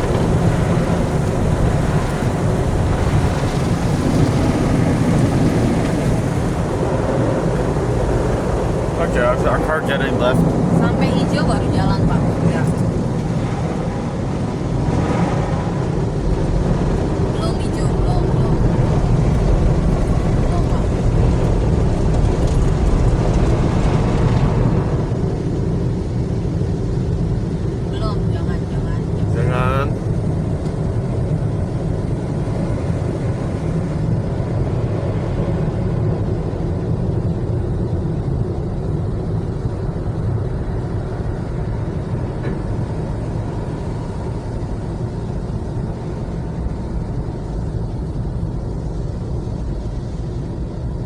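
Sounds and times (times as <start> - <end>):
car wash spraying and rumbling: 0.0 - 51.0.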